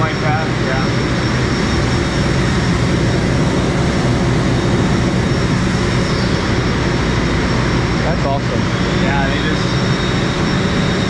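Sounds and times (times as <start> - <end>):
faint high whine: 0.0 - 11.0
hum of running mills: 0.0 - 11.0.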